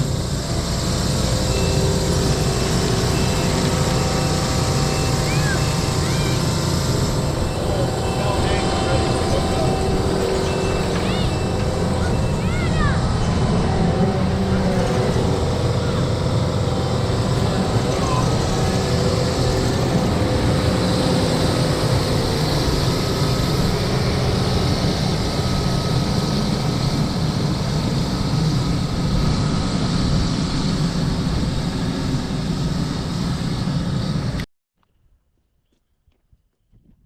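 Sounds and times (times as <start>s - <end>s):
engine running: 0.0s - 34.5s.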